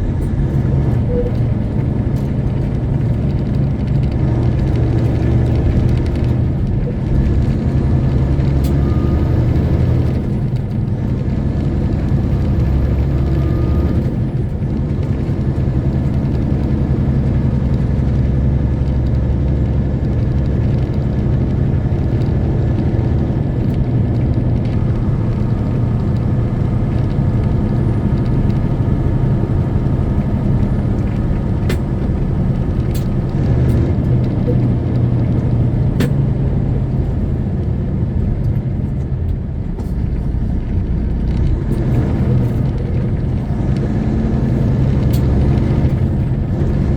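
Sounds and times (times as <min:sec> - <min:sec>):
road noise: 0:00.0 - 0:46.9
truck diesel engine running: 0:00.0 - 0:46.9.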